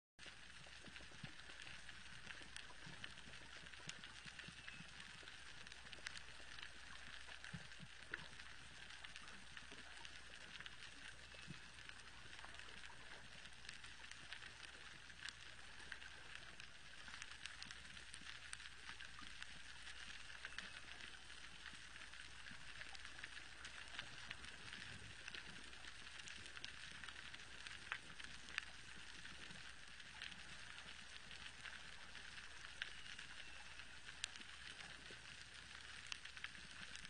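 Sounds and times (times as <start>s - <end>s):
underwater crackle of sharp clicks: 0.2s - 37.0s.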